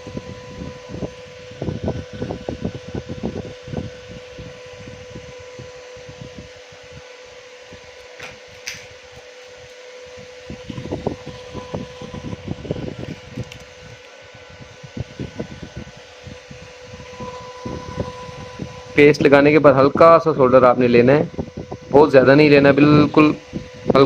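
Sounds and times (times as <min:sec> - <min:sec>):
fan whirring: 0:00.0 - 0:24.0.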